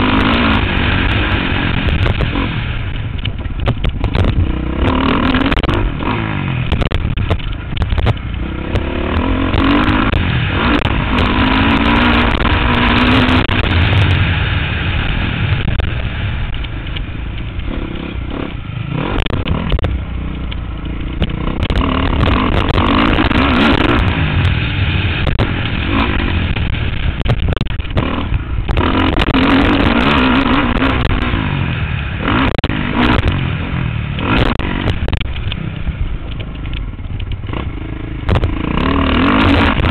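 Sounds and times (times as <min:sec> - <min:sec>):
low wind rumble on microphone: 0:00.0 - 0:39.9
motocross bike engine revving: 0:00.0 - 0:39.9.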